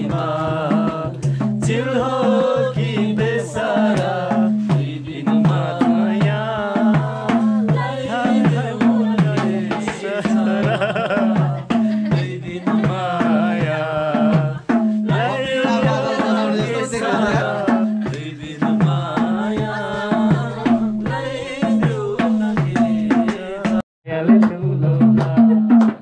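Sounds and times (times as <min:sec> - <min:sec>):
melody over hand drum beat: 0:00.0 - 0:26.0.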